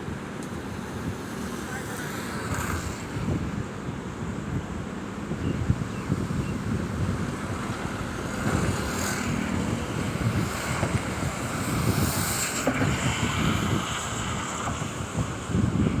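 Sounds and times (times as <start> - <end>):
floodwater roaring through spillway: 0.0 - 16.0
wind buffeting microphone: 0.0 - 16.0.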